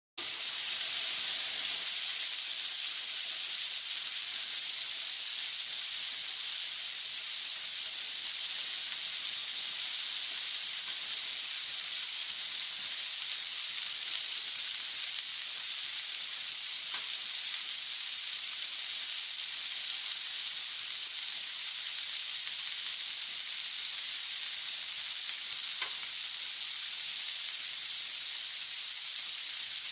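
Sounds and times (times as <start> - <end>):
food frying in hot oil: 0.2 - 29.9.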